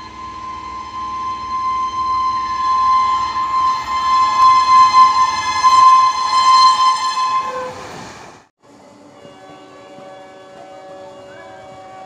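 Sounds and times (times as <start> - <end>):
train horn: 0.0 - 7.9, 9.0 - 12.0.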